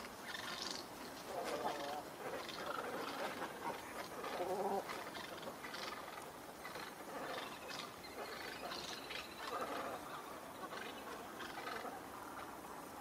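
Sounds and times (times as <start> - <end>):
ducks and swans calling: 0.0 - 12.7.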